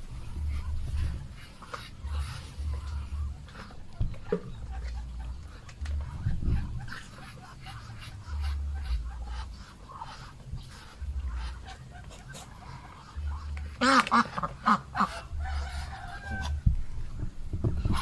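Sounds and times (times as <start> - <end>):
ducks tapping at grain: 0.2 - 16.5.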